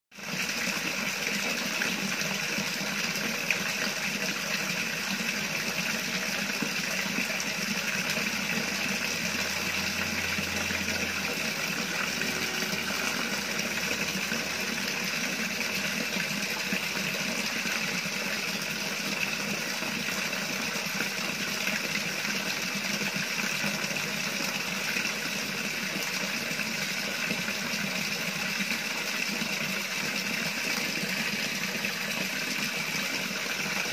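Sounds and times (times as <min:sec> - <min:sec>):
running water rushing: 0:00.2 - 0:33.9.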